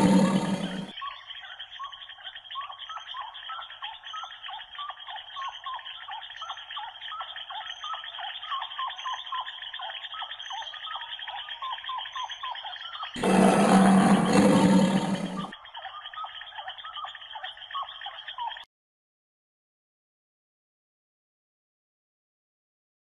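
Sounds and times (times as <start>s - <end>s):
chorus of small animal chirps: 0.0s - 18.7s.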